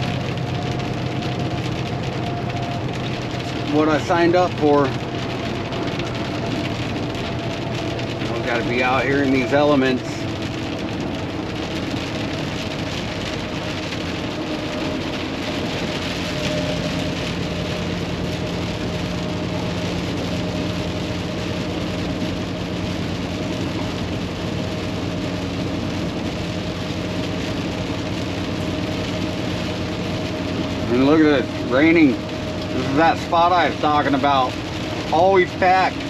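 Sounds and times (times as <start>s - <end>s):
diesel engine drone: 0.0s - 36.0s
rain on windshield: 0.0s - 36.0s
road noise: 0.0s - 36.0s.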